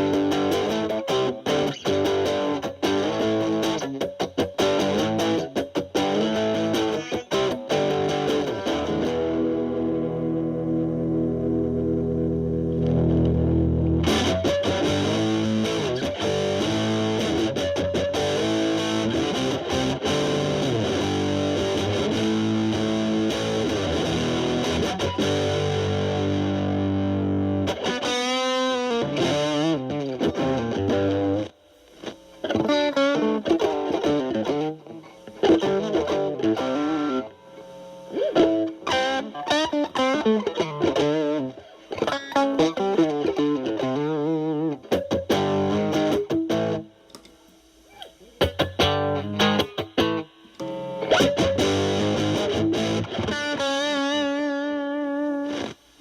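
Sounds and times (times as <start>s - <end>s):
clean picked guitar notes: 0.0s - 55.8s
distorted electric guitar chords: 0.0s - 56.0s.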